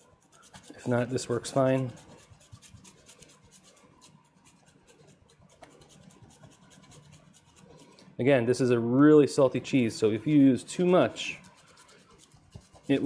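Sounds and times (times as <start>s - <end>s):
cheese scratching into bowl: 0.0s - 8.1s, 9.7s - 13.0s.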